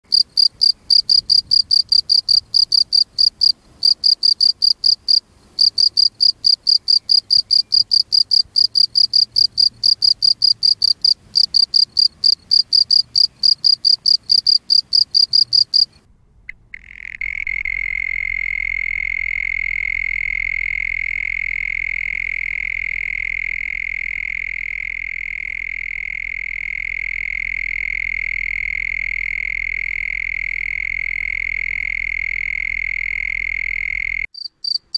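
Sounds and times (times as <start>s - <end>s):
crickets chirping: 0.1s - 34.9s
low cricket trill: 0.1s - 34.9s.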